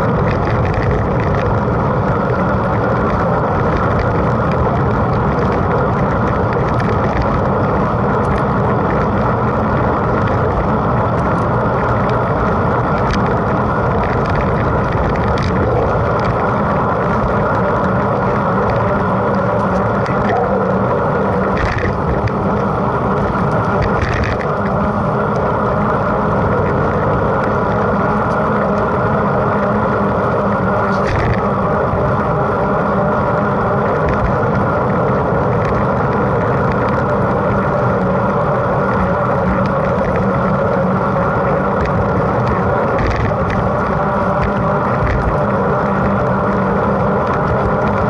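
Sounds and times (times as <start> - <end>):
bike tyre rumble: 0.0 - 48.0
wind on microphone: 0.0 - 48.0.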